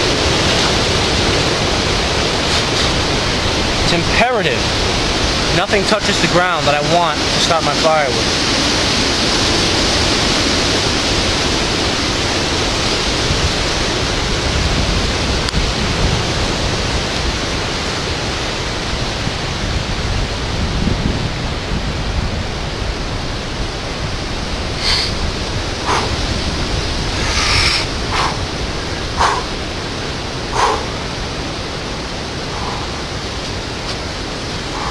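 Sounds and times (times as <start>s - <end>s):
heavy rain and wind: 0.0s - 34.9s
wind rumbling on microphone: 0.0s - 34.9s.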